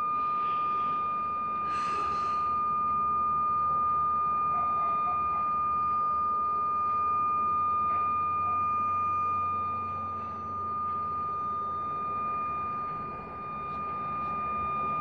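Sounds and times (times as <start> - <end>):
high-pitched electronic tone: 0.0 - 15.0.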